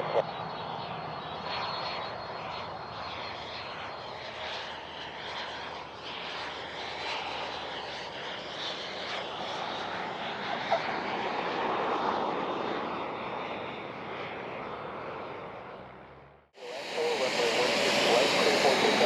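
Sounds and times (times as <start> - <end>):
airplane engine rushing: 0.0 - 19.0.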